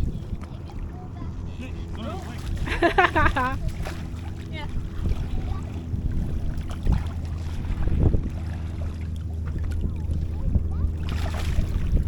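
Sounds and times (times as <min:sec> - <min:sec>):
boat engine idling: 0:00.0 - 0:12.0
wind buffeting microphone: 0:00.0 - 0:12.0.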